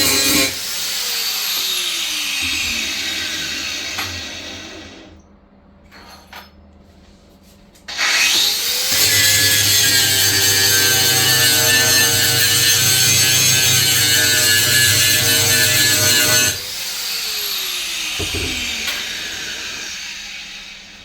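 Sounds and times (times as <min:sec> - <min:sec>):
electric power tool whining: 0:00.0 - 0:05.1, 0:07.9 - 0:21.0.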